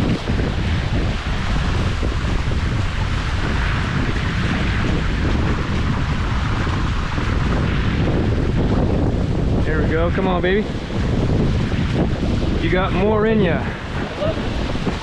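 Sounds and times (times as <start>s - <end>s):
water rushing along hulls: 0.0s - 15.0s
wind buffeting microphone: 0.0s - 15.0s.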